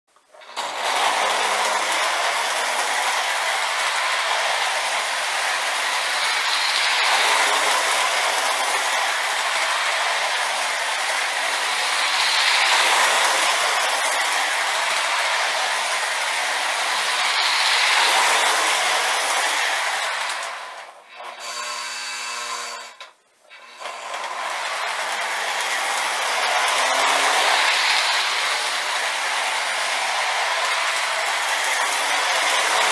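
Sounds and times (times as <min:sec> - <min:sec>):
wheels rolling on metal rails: 0:00.1 - 0:21.9, 0:22.6 - 0:32.9
model train motor whirring: 0:00.2 - 0:32.9.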